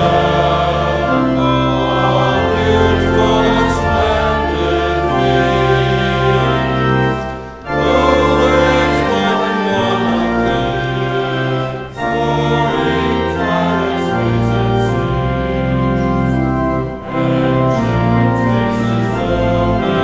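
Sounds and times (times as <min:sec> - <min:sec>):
choir singing held chords: 0:00.0 - 0:20.0
organ: 0:00.0 - 0:20.0.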